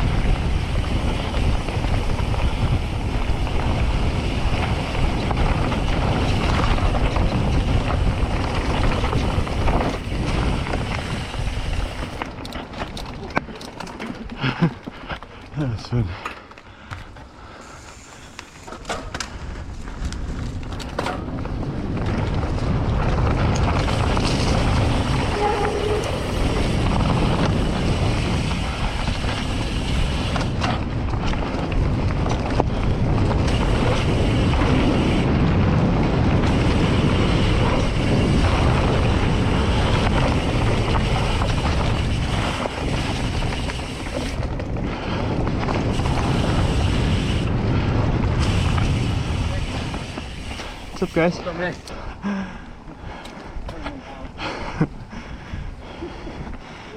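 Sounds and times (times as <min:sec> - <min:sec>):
wind on microphone: 0:00.0 - 0:13.4, 0:19.2 - 0:51.3, 0:51.9 - 0:56.9
bike tyre rumble on dirt: 0:00.0 - 0:56.9.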